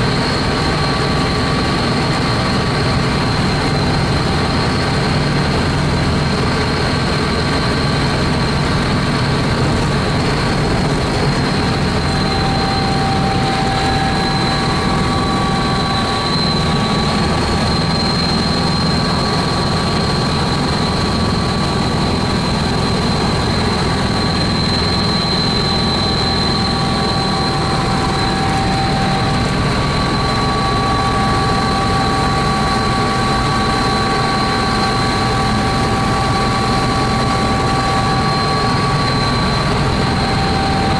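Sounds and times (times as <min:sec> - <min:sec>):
helicopter rotor noise: 0:00.0 - 0:40.9
high steady whines: 0:00.0 - 0:40.9.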